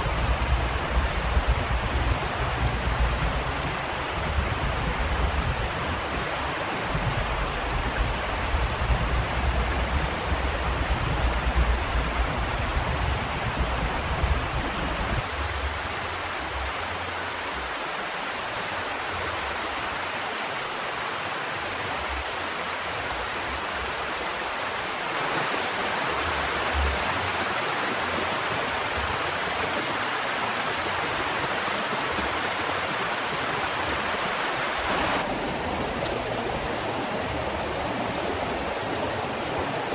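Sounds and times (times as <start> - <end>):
heavy rain hissing: 0.0 - 20.0, 20.6 - 39.9.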